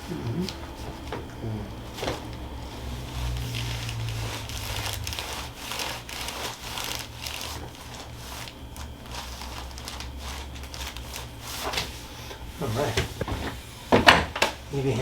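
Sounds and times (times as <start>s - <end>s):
rustling and crinkling on table: 0.4s - 14.6s.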